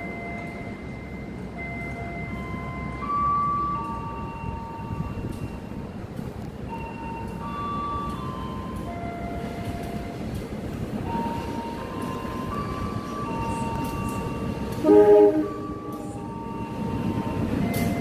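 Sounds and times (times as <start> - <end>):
distant diesel train rumble: 0.0 - 18.0.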